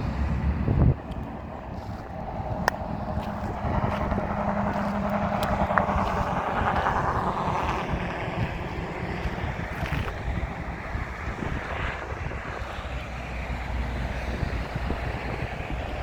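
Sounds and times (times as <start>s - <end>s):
vehicle passing by: 0.0s - 16.0s
wind rumbling on microphone: 0.0s - 16.0s.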